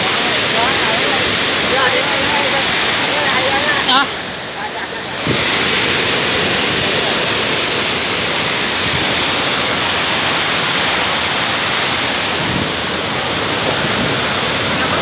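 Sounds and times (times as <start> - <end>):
heavy rain on river water: 0.0 - 15.0.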